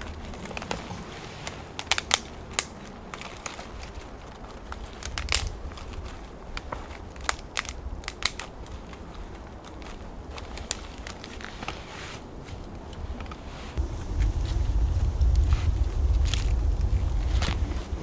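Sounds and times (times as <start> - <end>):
twigs snapping and crackling: 0.0 - 18.0.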